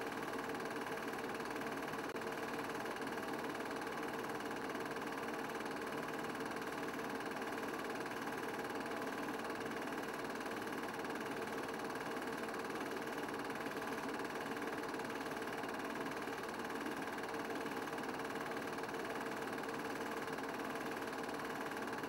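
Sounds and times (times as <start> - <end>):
film projector whirring: 0.0 - 22.0.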